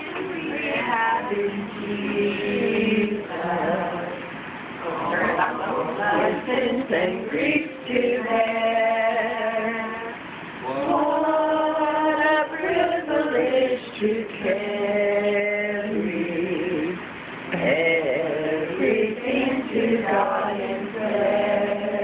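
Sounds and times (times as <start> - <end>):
group singing unaccompanied: 0.0 - 22.0.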